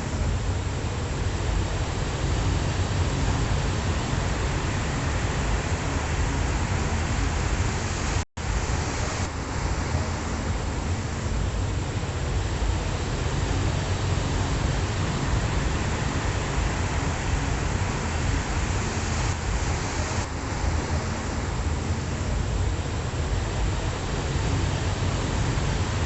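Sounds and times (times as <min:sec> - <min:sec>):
ocean surf washing in: 0:00.0 - 0:26.0.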